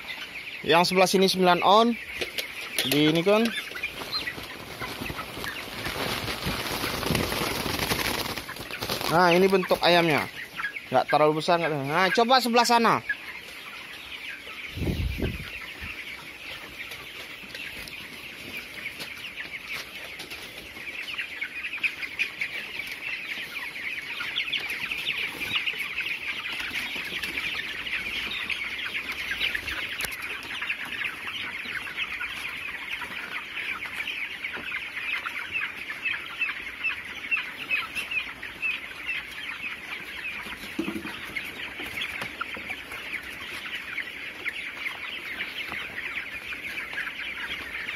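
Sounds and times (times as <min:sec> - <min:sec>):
chickens peeping and clucking: 0:00.0 - 0:47.9.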